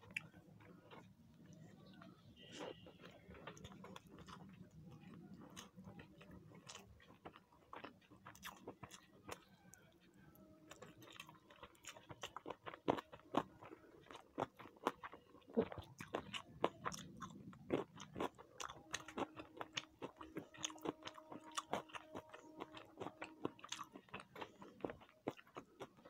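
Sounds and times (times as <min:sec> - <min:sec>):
wet chewing and mouth clicks: 0:00.0 - 0:26.0.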